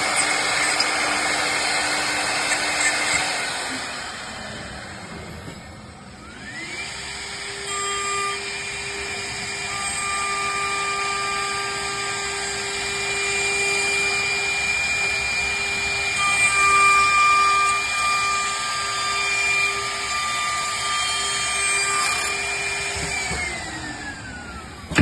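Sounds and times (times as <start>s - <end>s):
spindle motor whine: 0.0s - 25.0s.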